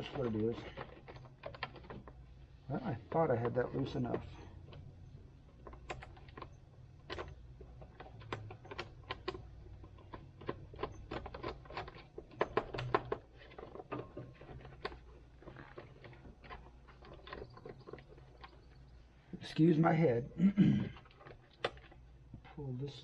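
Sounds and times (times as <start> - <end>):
plastic clicks and rattles: 0.0 - 2.2, 3.0 - 19.0, 20.8 - 22.6.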